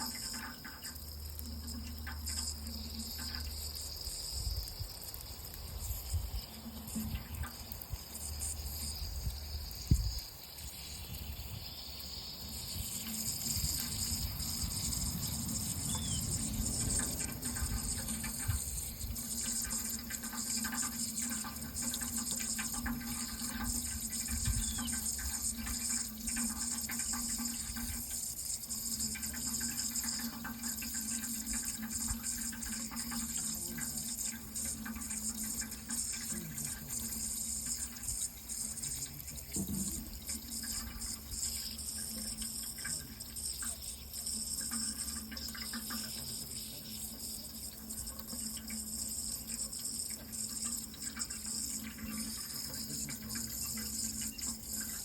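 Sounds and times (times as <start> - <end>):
constant low hum: 0.0 - 55.0
water running: 0.0 - 55.0.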